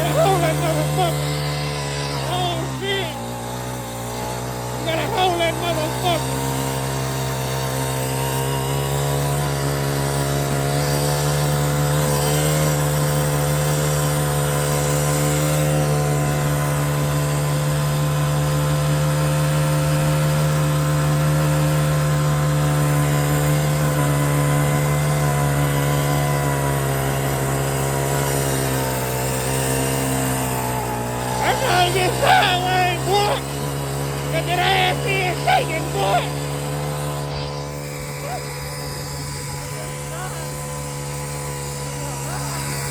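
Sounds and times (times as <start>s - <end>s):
atv engine running at high revs: 0.0s - 42.9s.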